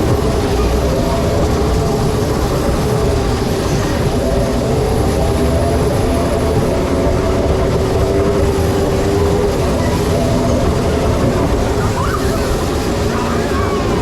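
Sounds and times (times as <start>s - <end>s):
mechanical hum: 0.0s - 14.0s
theme park ride rumbling: 0.0s - 14.0s.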